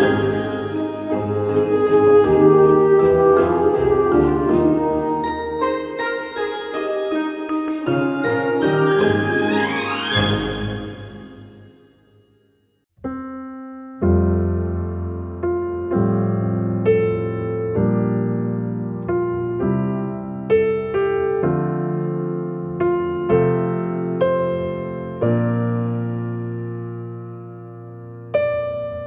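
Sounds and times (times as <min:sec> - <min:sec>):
slow piano chords: 0:00.0 - 0:11.7, 0:13.0 - 0:29.0.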